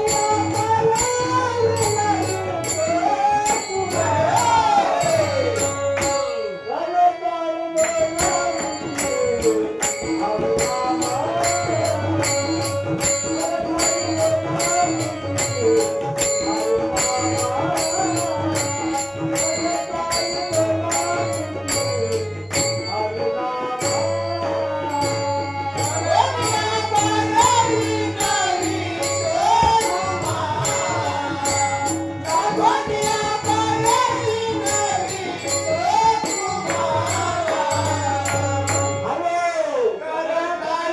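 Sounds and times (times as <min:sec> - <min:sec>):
jingling percussion: 0:00.0 - 0:39.4
man singing: 0:00.0 - 0:40.9
tabla: 0:00.0 - 0:40.9.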